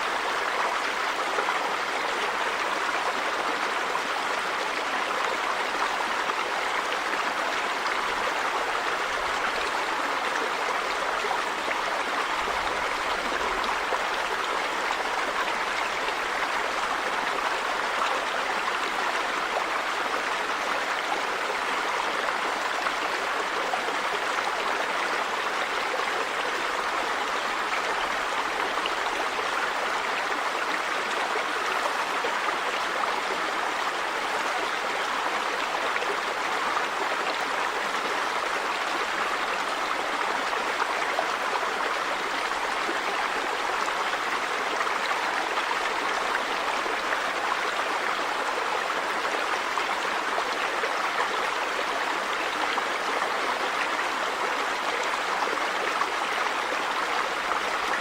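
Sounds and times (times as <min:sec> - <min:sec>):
river water over rocks: 0:00.0 - 0:58.0.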